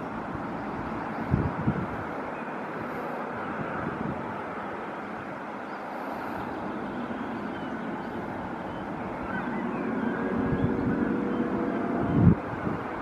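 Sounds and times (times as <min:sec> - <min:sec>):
distant helicopter turbine and rotor: 0:00.0 - 0:13.0.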